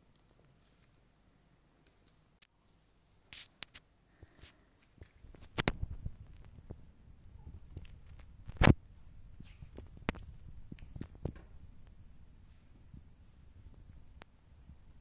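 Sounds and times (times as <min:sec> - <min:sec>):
soft rustle: 0:00.2 - 0:01.1, 0:02.0 - 0:15.0.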